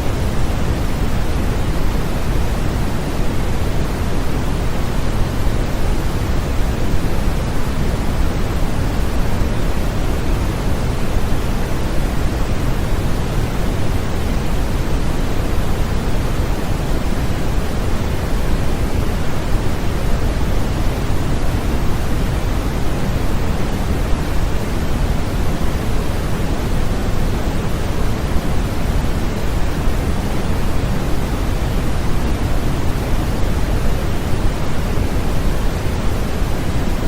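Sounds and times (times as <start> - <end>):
white noise hiss: 0.0 - 37.0.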